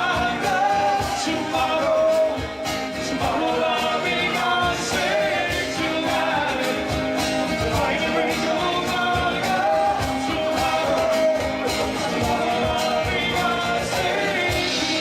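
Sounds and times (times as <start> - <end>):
live rock band playing: 0.0 - 15.0
steady drum beat: 0.0 - 15.0.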